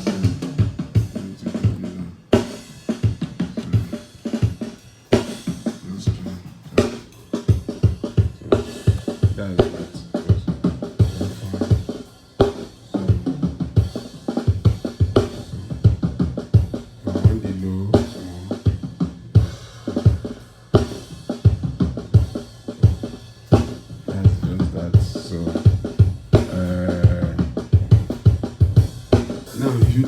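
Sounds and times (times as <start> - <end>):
drum kit groove: 0.0 - 30.0.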